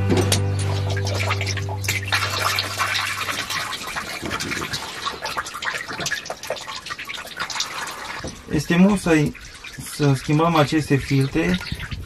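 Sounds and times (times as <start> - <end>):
oil pouring into a pan: 0.6 - 12.0.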